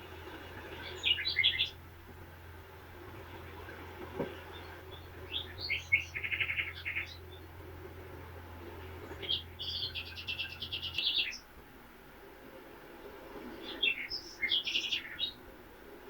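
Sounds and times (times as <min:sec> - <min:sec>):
songbirds chirping: 0:00.3 - 0:11.5, 0:13.0 - 0:15.5.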